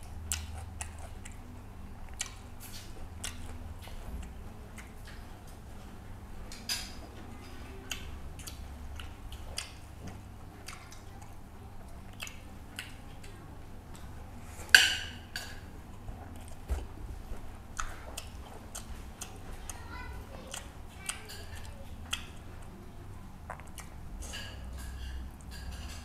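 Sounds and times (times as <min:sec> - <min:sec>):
man chewing with lip smacks: 0:00.0 - 0:06.7, 0:07.8 - 0:14.8, 0:15.4 - 0:19.8, 0:20.4 - 0:26.0.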